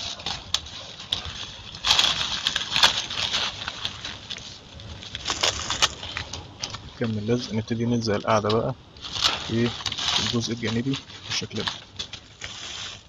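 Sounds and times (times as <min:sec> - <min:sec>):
foil and plastic crinkling: 0:00.0 - 0:13.0.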